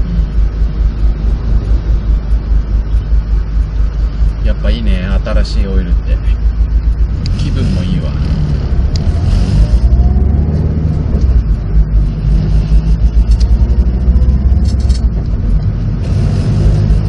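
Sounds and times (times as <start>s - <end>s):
car engine low rumble: 0.0s - 17.0s
road noise: 0.0s - 17.0s.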